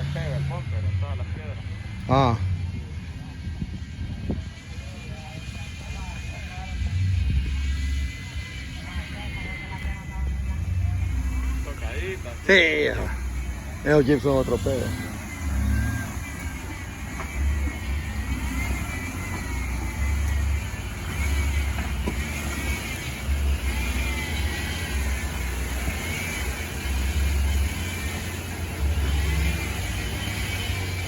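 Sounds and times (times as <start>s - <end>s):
off-road engine revving hard: 0.0s - 2.7s, 6.1s - 31.0s.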